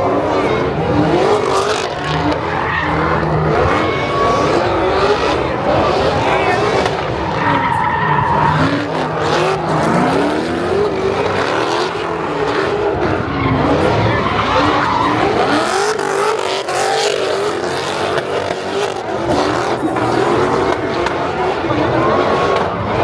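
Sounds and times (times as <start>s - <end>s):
car engine revving: 0.0s - 23.0s
tires squealing: 0.0s - 23.0s.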